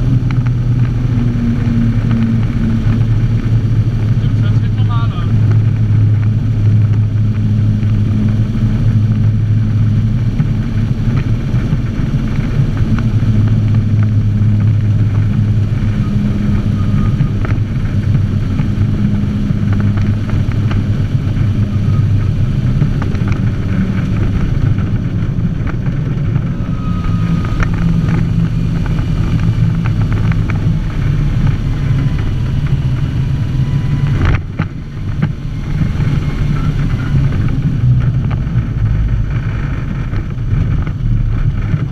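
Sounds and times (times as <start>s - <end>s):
engine running inside cab: 0.0s - 41.9s.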